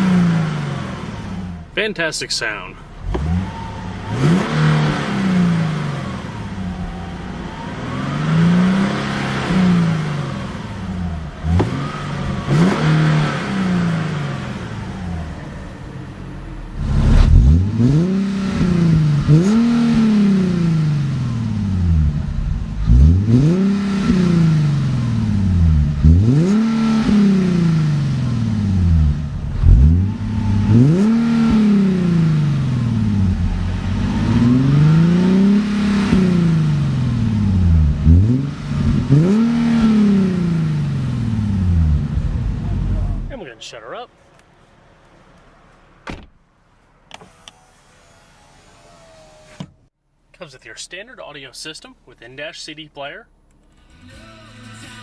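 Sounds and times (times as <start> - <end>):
car engine revving: 0.0 - 43.5, 53.5 - 55.0.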